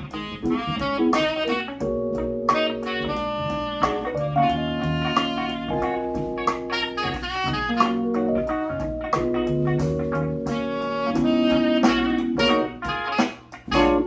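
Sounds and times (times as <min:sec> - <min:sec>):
instrumental music with guitar and horns: 0:00.0 - 0:14.0.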